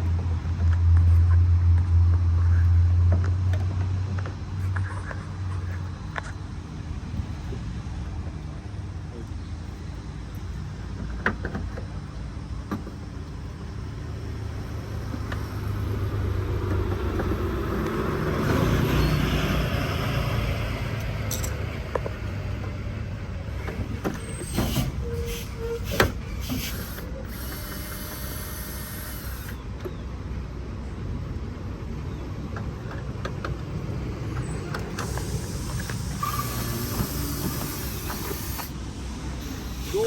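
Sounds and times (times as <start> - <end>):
vehicle engine rumbling: 0.0 - 40.0.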